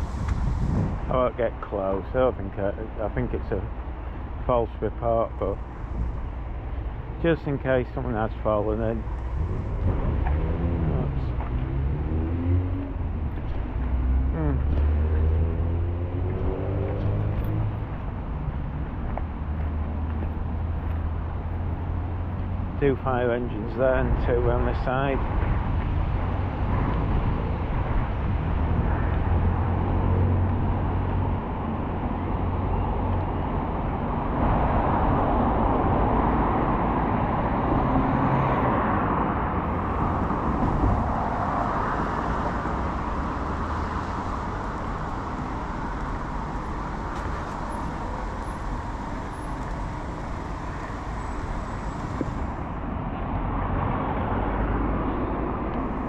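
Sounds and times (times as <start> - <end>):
traffic passing on road: 0.0 - 56.0.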